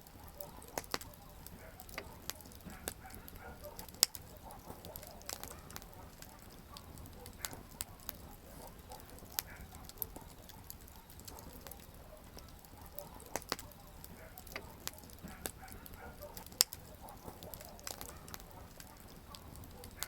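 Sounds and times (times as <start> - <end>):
campfire crackling: 0.0 - 20.0
fire hissing: 0.0 - 20.0
firewood popping: 0.0 - 20.0.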